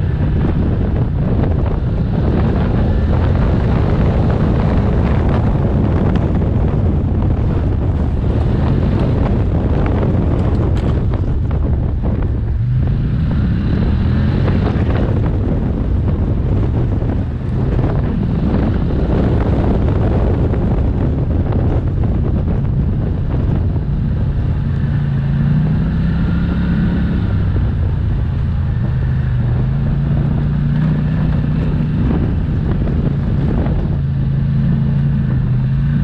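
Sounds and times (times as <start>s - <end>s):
atv engine running: 0.0s - 36.0s
wind buffeting microphone: 0.0s - 36.0s.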